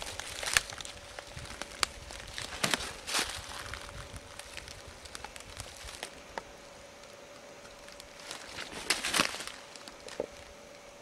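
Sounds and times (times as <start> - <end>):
footsteps in dry leaves: 0.0 - 6.4, 7.0 - 10.5
faint steady hum: 0.0 - 11.0.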